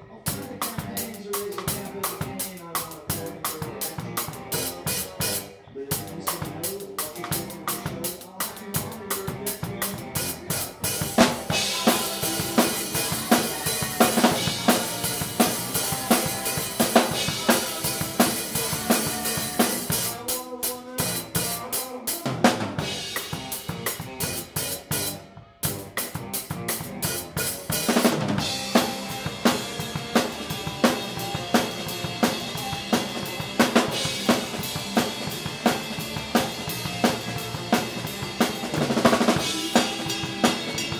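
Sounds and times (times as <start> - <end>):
electric guitar: 0.0 - 40.9
rock band playing live: 0.0 - 40.9
drum kit beat: 0.2 - 40.9.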